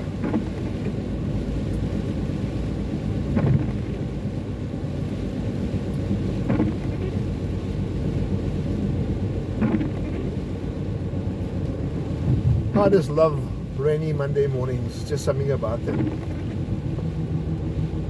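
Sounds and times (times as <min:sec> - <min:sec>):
engine and tyre rumble: 0:00.0 - 0:18.0
windscreen wipers swishing: 0:00.0 - 0:18.0.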